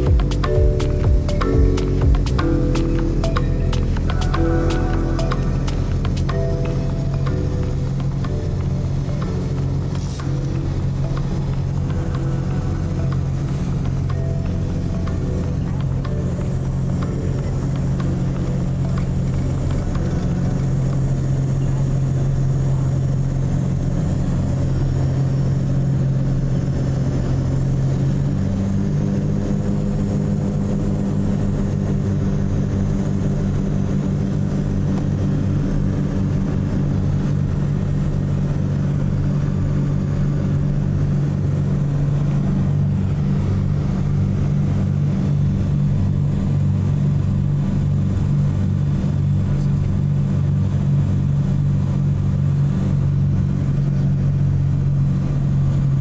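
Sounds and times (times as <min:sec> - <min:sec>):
aircraft cabin engine drone: 0:00.0 - 0:56.0.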